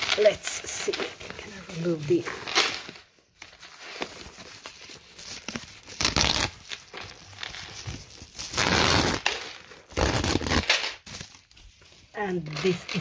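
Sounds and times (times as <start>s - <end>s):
tissue paper rustling and crinkling: 0.0s - 13.0s.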